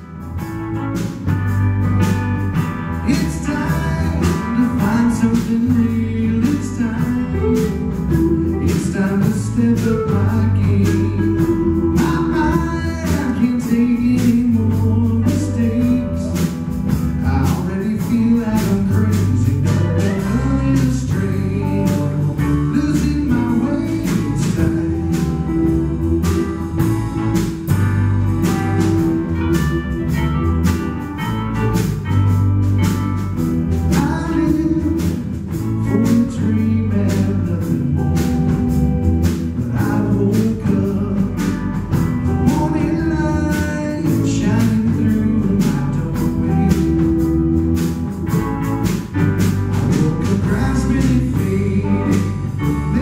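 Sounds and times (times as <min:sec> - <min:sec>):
blues band playing live: 0:00.0 - 0:53.0.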